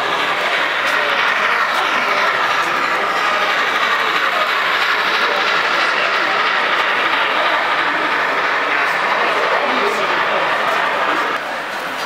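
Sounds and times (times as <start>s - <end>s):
model train wheels rolling: 0.0s - 12.0s.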